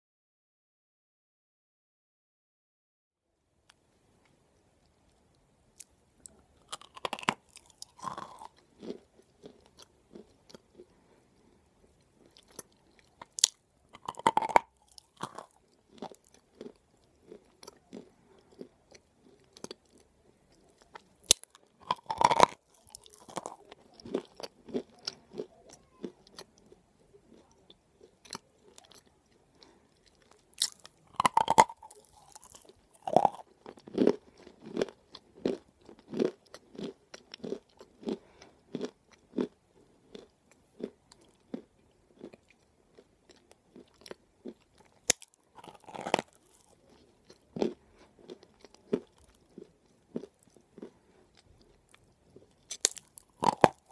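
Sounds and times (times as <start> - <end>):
crunchy chewing: 5.8 - 53.9
crunching bites of dry clay: 6.7 - 11.0, 12.2 - 20.1, 20.8 - 26.7, 28.0 - 53.9.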